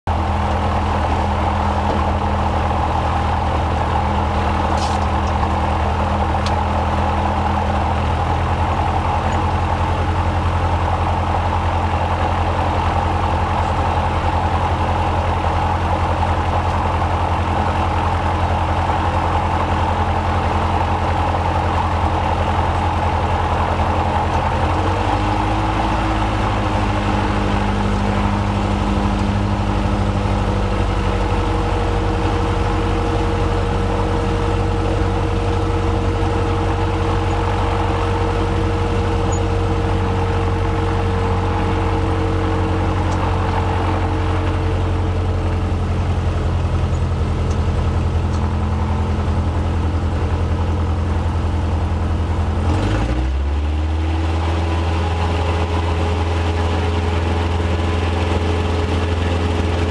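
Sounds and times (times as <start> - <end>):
aircraft engine and propeller idling: 0.0 - 59.9.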